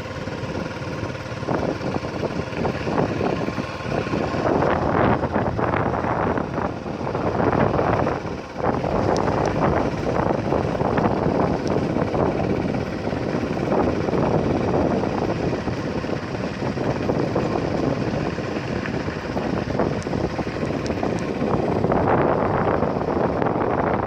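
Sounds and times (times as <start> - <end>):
moving vehicle rumble: 0.0 - 24.0
wind buffeting microphone: 0.0 - 24.0.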